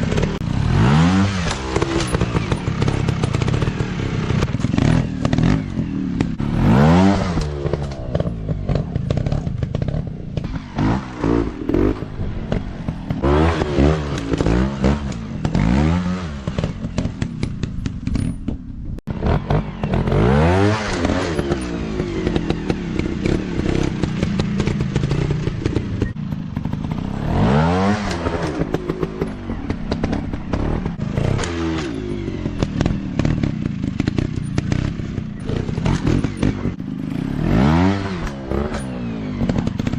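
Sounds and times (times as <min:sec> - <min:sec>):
dirt bike engine revving: 0:00.0 - 0:18.1, 0:19.1 - 0:39.9
knocks and clatter over rough ground: 0:00.0 - 0:39.9.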